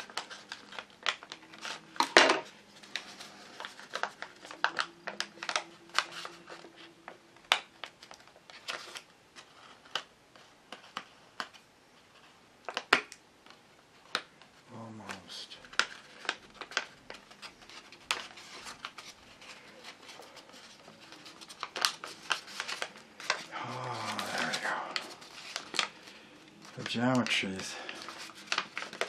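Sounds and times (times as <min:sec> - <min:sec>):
paper crackling: 0:00.0 - 0:29.0.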